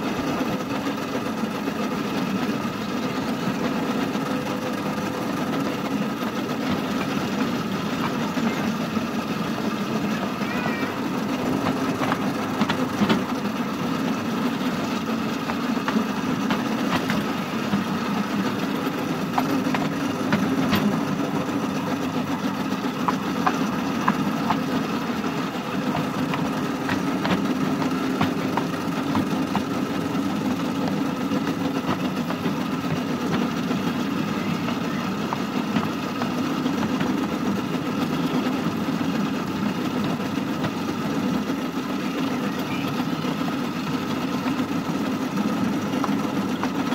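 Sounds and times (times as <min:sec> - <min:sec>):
miniature railway engine running: 0:00.0 - 0:46.9.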